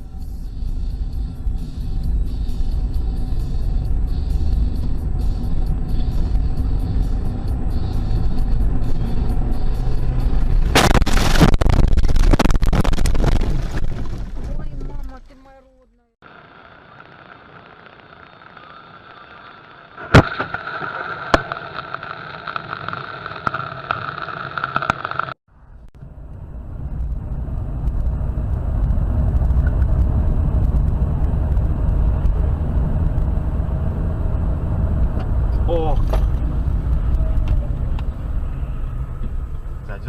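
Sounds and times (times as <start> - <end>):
car engine and road rumble: 0.0 - 40.0.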